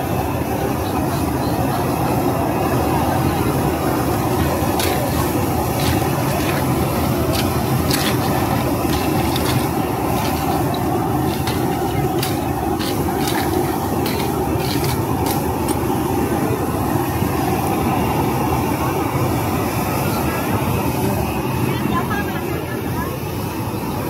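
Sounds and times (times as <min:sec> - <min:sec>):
gas burner rushing: 0:00.0 - 0:24.0.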